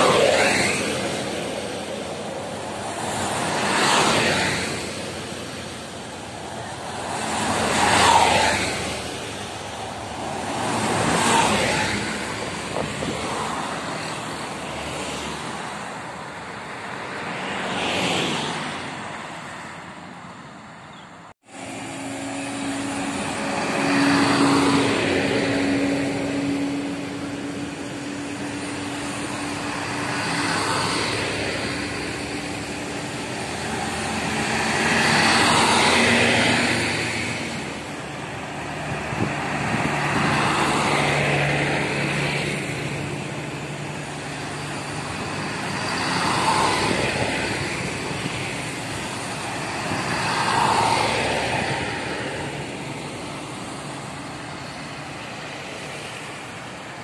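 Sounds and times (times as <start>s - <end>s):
buses driving past: 0.0s - 57.0s.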